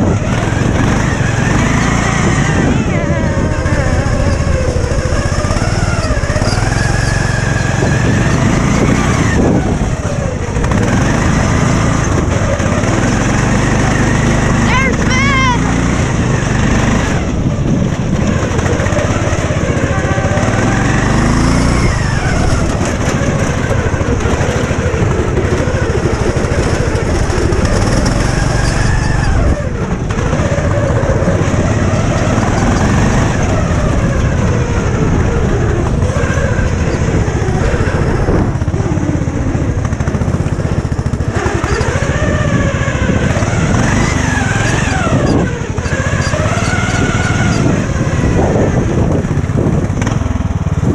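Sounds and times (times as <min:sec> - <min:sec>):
lawn mower engine revving: 0:00.0 - 0:50.9.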